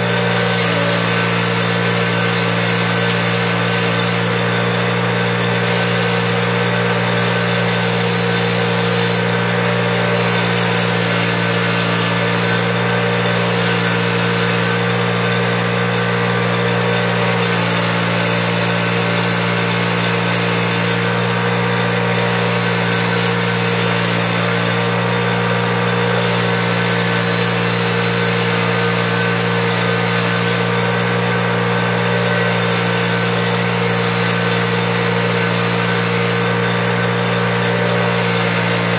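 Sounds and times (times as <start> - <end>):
bench grinder motor running: 0.0 - 38.9
metal grinding on wheel: 0.0 - 38.9.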